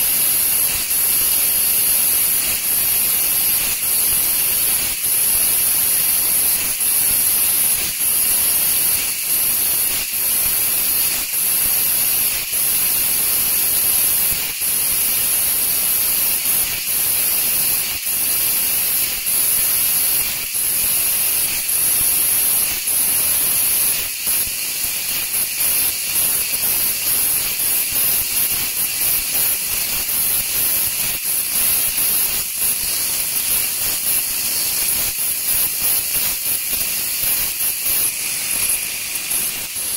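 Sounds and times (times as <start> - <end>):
laser cutter gas hiss: 0.0 - 39.9.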